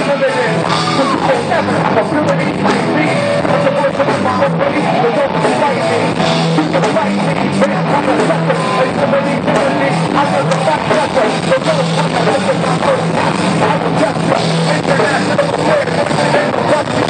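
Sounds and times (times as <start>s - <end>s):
drum kit: 0.0s - 17.0s
electric guitar: 0.0s - 17.0s.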